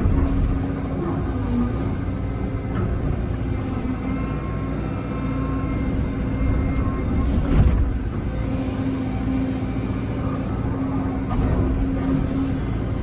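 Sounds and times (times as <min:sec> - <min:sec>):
diesel excavator engine running: 0:00.0 - 0:13.0.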